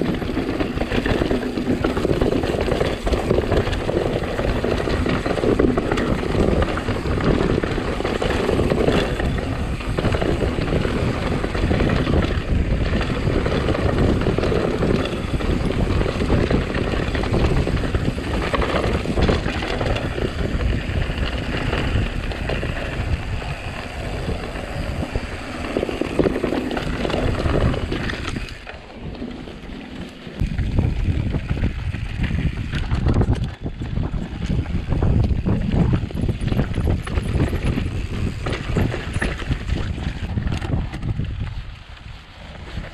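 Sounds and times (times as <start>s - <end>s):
bike tyres rumbling and rattling: 0.0s - 42.9s
wind buffeting microphone: 0.0s - 42.9s.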